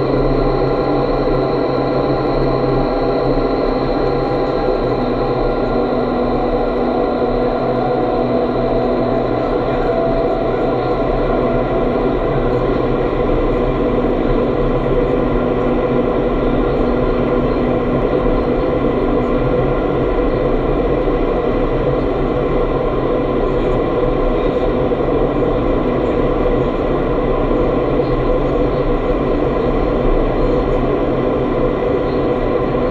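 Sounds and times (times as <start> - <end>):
fans humming: 0.0 - 32.9.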